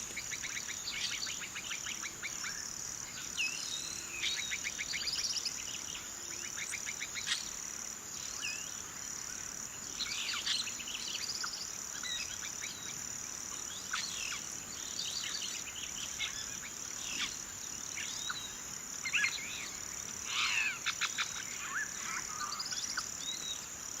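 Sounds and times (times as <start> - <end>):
birds chirping and trilling: 0.0 - 7.6, 9.8 - 23.8
high-pitched insect drone: 0.0 - 24.0.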